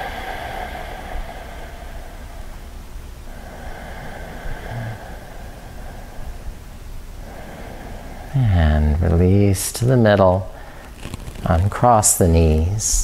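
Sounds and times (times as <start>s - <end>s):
slow hissing breaths: 0.0s - 9.7s, 10.4s - 12.3s.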